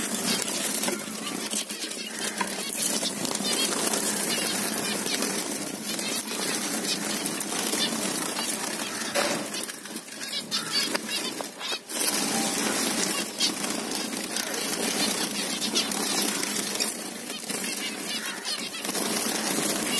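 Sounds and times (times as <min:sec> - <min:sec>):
finches calling and chattering: 0:00.0 - 0:19.9.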